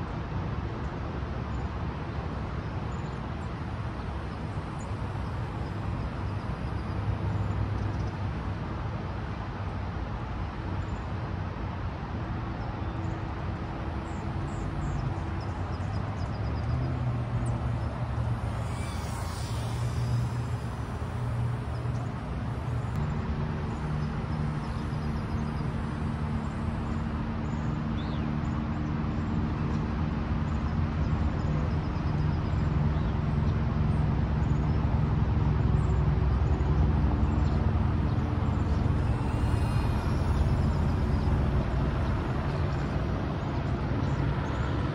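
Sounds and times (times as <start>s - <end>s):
quadcopter humming in flight: 0.0s - 44.9s.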